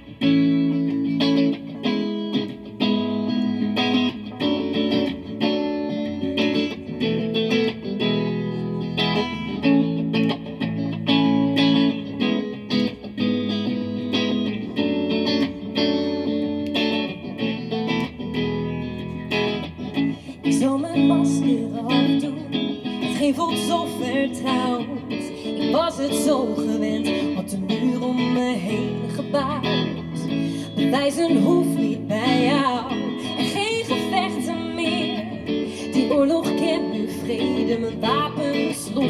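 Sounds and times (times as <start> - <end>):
electric guitar playing chords: 0.0 - 39.0.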